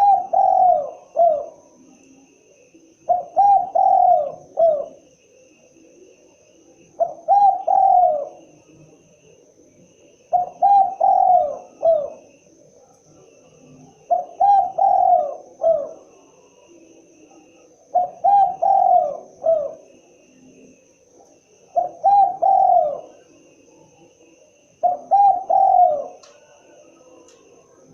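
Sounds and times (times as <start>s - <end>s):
dove cooing: 0.0s - 27.9s.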